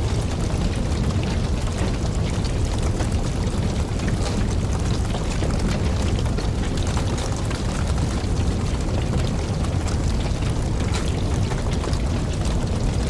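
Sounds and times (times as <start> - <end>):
campfire burning and crackling: 0.0 - 13.0.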